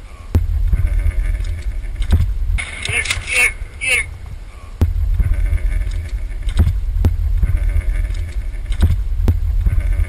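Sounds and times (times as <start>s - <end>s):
wind buffeting microphone: 0.3s - 10.0s.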